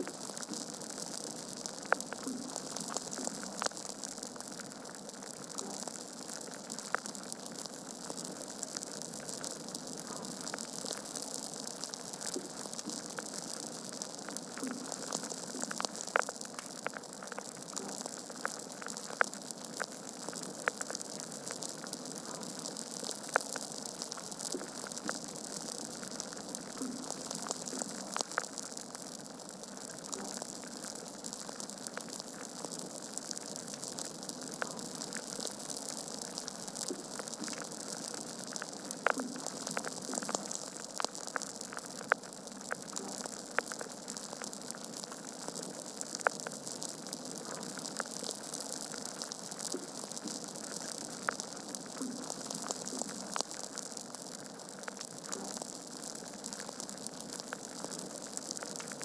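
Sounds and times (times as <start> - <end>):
logs crackling and popping: 0.0 - 59.0.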